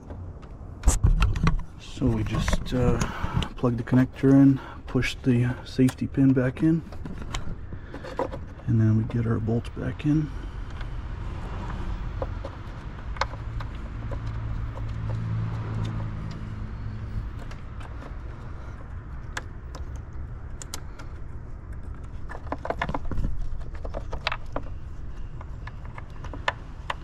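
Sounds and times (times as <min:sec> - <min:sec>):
steady low rumble: 0:00.2 - 0:27.0.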